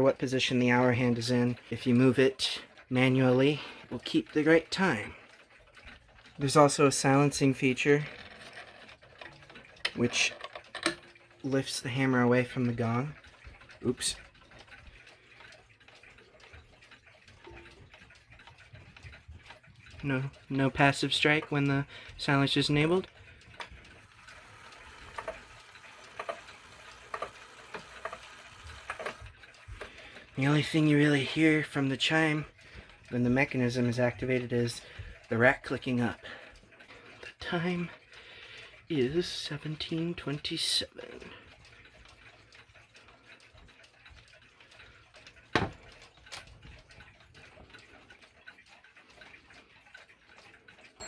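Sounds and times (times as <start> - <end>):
wall clock ticking: 0.0 - 51.0.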